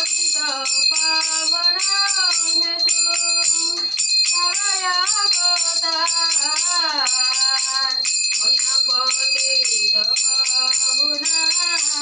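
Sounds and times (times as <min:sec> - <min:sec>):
person singing devotional song: 0:00.0 - 0:12.0
small hand bell ringing: 0:00.0 - 0:12.0.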